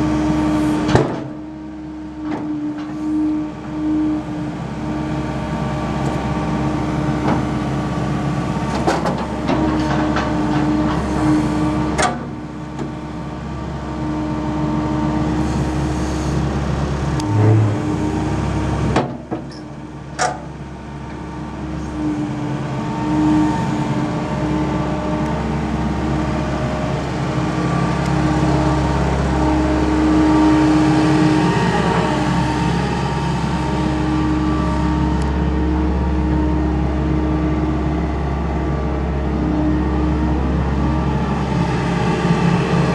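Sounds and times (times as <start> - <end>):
engine whine under load: 0.0 - 42.9
excavator diesel engine running: 0.0 - 42.9.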